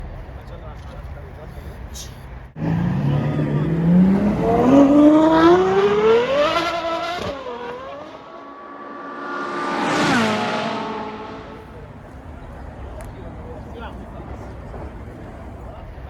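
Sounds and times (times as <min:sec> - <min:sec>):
car passing close by: 0:02.6 - 0:15.6
car engine accelerating hard: 0:02.6 - 0:16.0.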